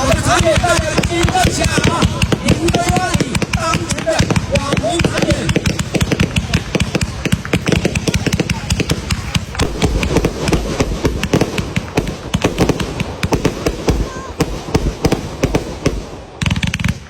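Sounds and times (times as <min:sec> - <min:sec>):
fireworks cracking and banging: 0:00.0 - 0:17.0.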